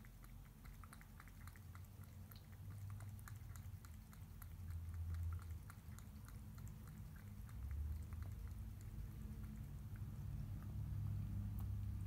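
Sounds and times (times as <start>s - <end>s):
cat chewing wet food: 0.0s - 12.0s.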